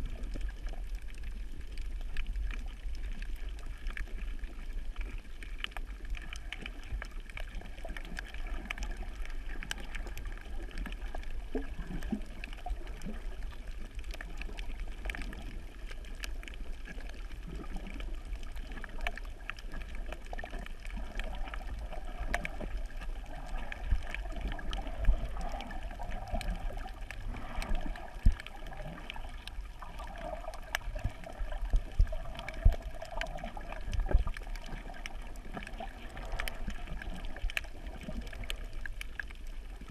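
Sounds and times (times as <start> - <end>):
underwater rushing and gurgling: 0.0 - 39.9
faint clicks: 0.2 - 39.9.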